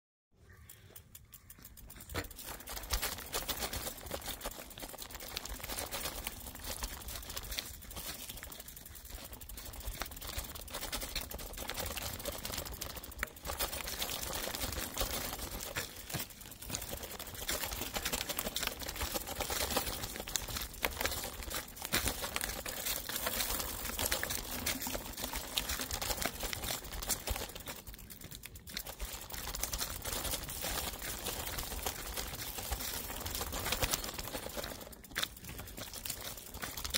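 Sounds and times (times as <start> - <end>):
bike tyres crackling over dry leaves: 0.4 - 36.9
small clicks and rattles: 0.4 - 36.9.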